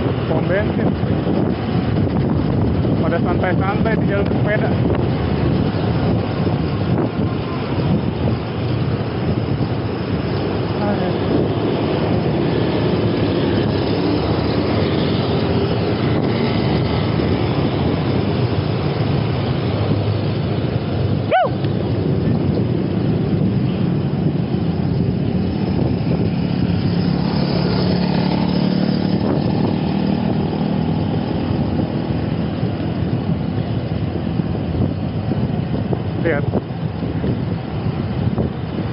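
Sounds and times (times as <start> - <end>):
traffic noise: 0.0 - 38.9
wind rushing over microphone: 0.0 - 38.9.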